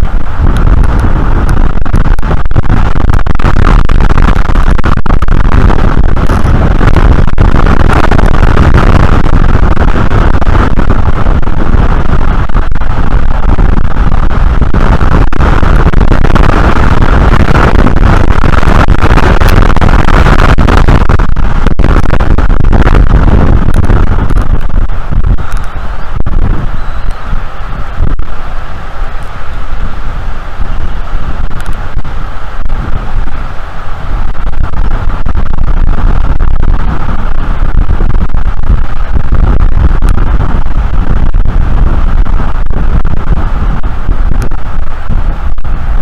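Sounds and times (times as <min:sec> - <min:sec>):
strong wind blowing on microphone: 0:00.0 - 0:46.0.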